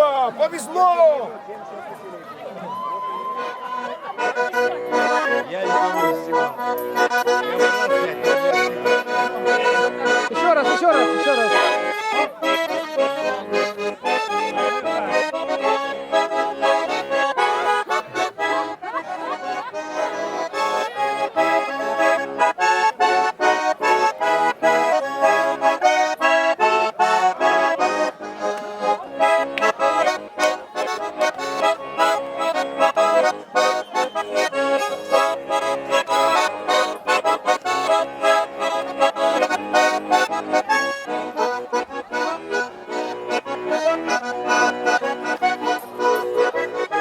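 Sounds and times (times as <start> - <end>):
button accordion playing lively tune: 0.0 - 1.2, 3.3 - 47.0.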